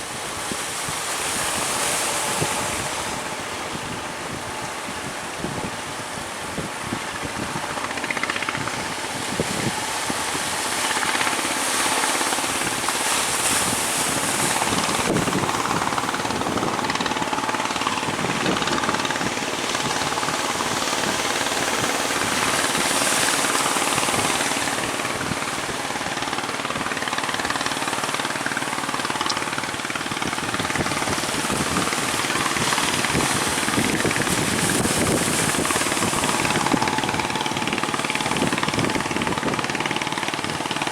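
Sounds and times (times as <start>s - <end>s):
boat engine pulsing: 0.0s - 40.9s
sea noise: 0.0s - 40.9s
wind: 0.0s - 40.9s.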